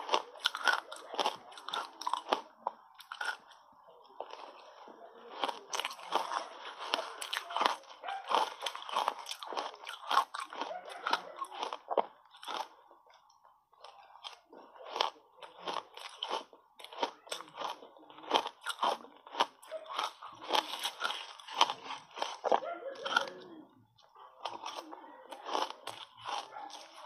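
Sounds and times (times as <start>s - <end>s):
crushed ice crunching while chewed: 0.0s - 27.0s.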